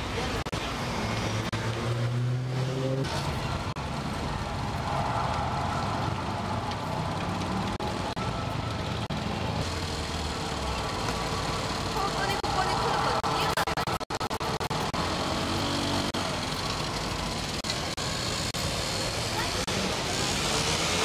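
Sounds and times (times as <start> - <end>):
road vehicle engines running: 0.0 - 21.0.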